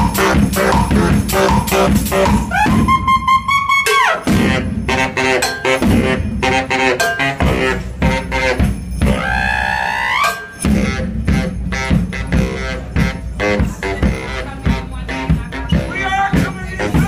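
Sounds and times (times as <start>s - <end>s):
baritone saxophone riff: 0.0s - 17.0s
drum beat: 0.0s - 17.0s.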